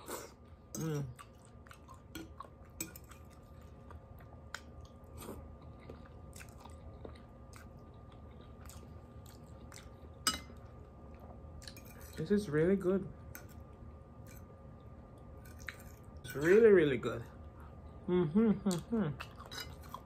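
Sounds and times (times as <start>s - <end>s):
person chewing food: 0.0s - 12.2s, 13.3s - 16.2s, 18.7s - 20.0s.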